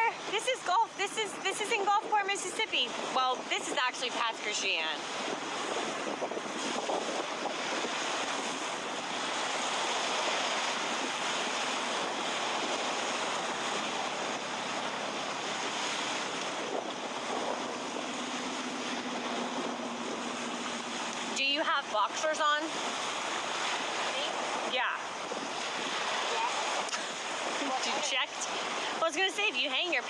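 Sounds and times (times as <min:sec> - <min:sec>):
surf washing onto beach: 0:00.0 - 0:30.0
wind on microphone: 0:00.0 - 0:30.0.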